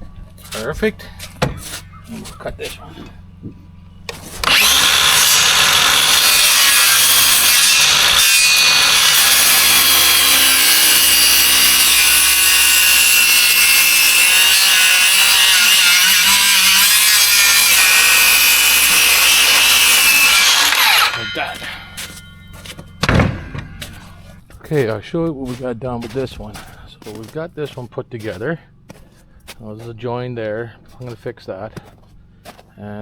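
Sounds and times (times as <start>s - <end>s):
power saw cutting wood: 0.4s - 29.6s.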